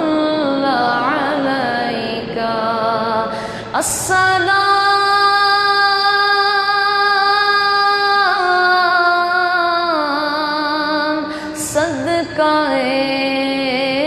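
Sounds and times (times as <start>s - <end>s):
boy singing long note: 0.0s - 14.0s.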